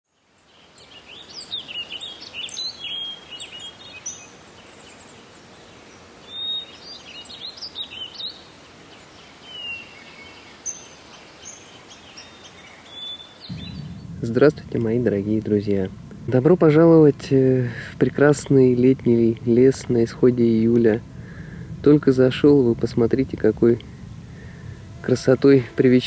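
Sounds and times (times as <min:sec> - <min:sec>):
small birds chirping: 0:00.1 - 0:25.4
woodland background hiss: 0:00.1 - 0:26.0.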